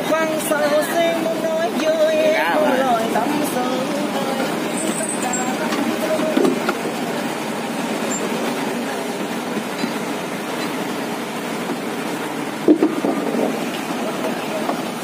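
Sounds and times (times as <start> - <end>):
boat engine running: 0.0 - 15.0
sea noise: 0.0 - 15.0
wind: 0.0 - 15.0.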